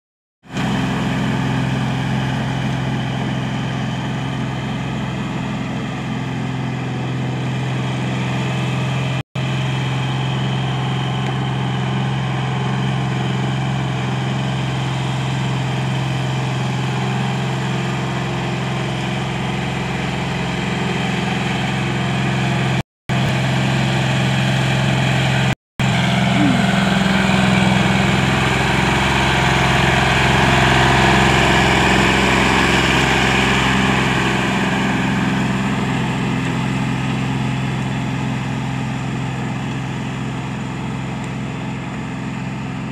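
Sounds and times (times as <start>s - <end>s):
tractor diesel engine running: 0.4s - 42.9s.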